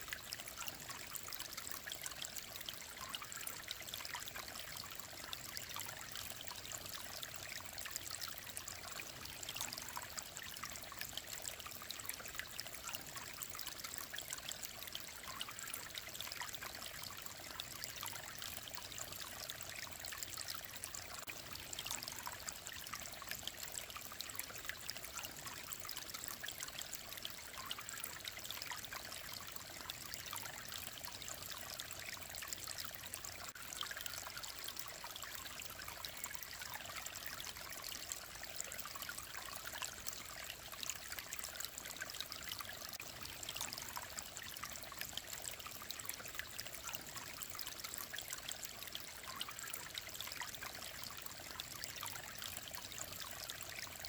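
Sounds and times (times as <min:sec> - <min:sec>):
stream trickling: 0:00.0 - 0:54.0.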